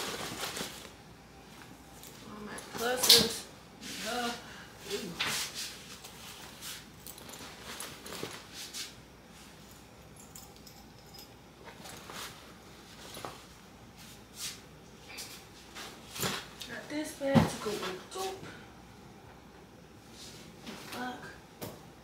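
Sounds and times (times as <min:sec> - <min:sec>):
low room hiss: 0:00.0 - 0:22.0.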